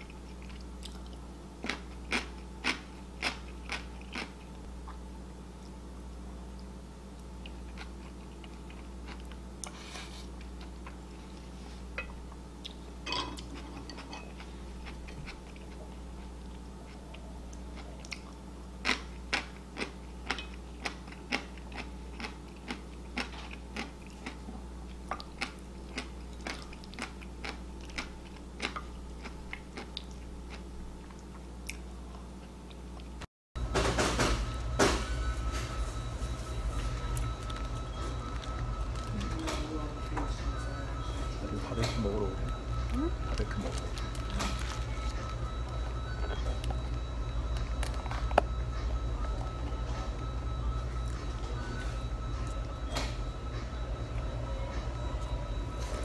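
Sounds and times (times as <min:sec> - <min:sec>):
crunching and chewing: 0:00.0 - 0:33.2, 0:36.2 - 0:54.2
low electrical hum: 0:00.0 - 0:56.0.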